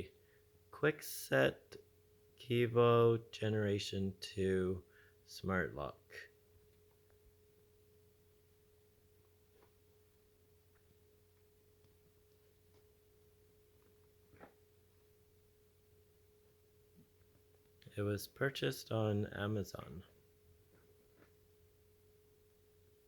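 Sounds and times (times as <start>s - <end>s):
faint high hum: 0.0s - 23.0s.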